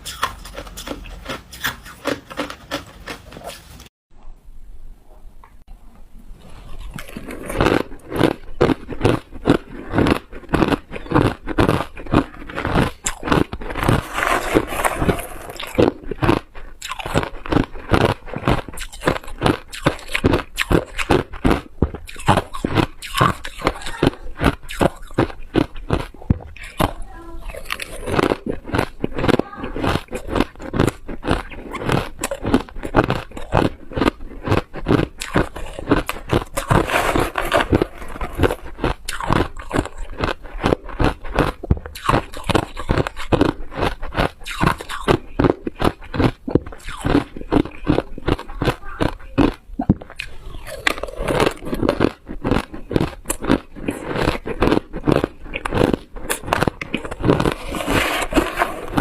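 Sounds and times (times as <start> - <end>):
person crunching ice: 6.7 - 59.0.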